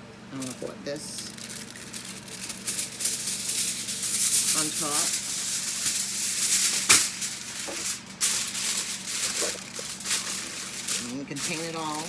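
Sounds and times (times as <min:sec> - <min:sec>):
aluminium foil crinkling: 0:00.3 - 0:12.0.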